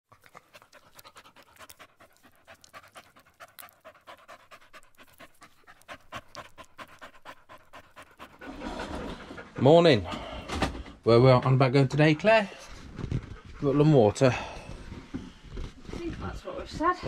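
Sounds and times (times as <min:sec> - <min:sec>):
dog panting rapidly: 0:00.1 - 0:10.1, 0:11.5 - 0:16.9.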